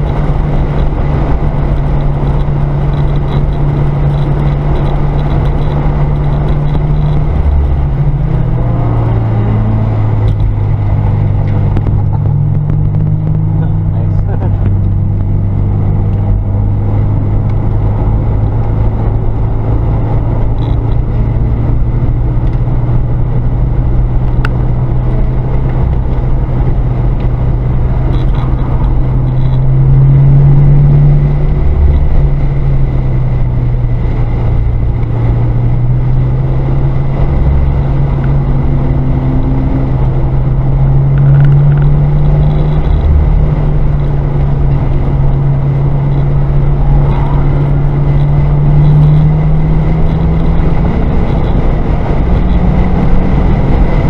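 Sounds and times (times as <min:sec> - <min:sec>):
car engine accelerating: 0:00.0 - 0:54.0
road and tyre noise: 0:00.0 - 0:54.0.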